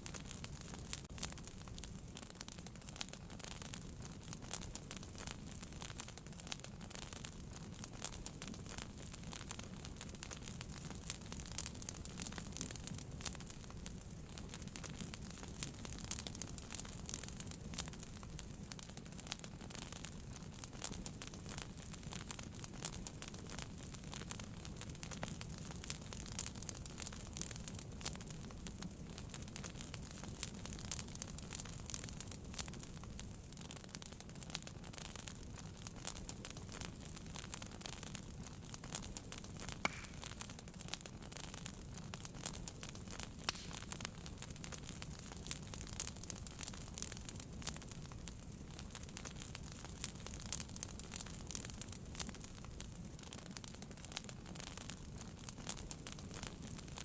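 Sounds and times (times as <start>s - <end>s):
fireplace fire crackling: 0.0s - 57.0s
low rumble of flames: 0.0s - 57.0s.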